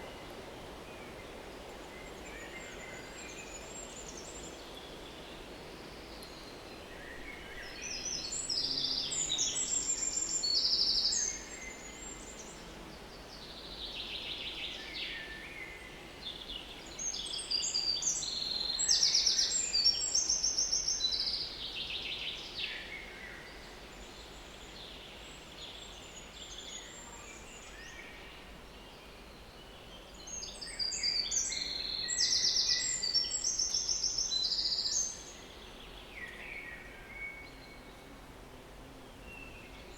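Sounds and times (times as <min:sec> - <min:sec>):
faint outdoor ambience: 0:00.0 - 0:39.9.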